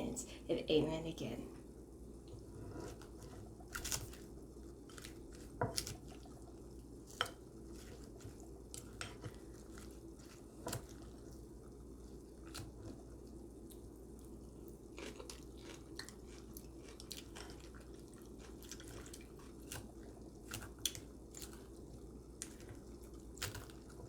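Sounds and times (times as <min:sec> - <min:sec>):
soft chewing: 0:01.6 - 0:24.0.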